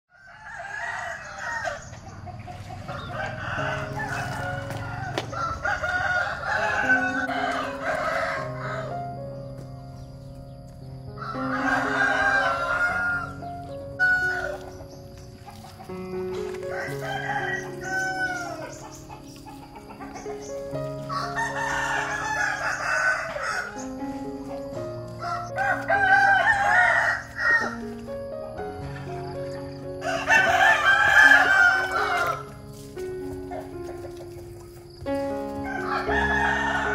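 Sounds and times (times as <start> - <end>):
roosters crowing: 0.1 - 9.5, 11.1 - 28.1, 28.7 - 36.9
soft background music: 0.1 - 36.9.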